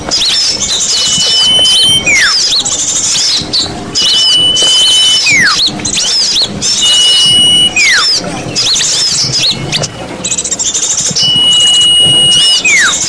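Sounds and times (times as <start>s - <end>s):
bird whistles: 0.1s - 13.0s
high bird chirps: 0.1s - 13.0s.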